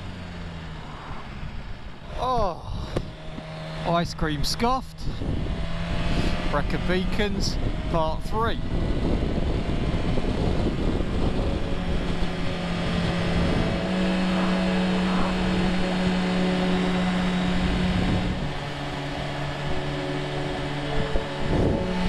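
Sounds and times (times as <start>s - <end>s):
motorcycle engine running: 0.0s - 22.0s
wind rush: 0.6s - 3.3s, 4.9s - 18.8s, 19.5s - 22.0s.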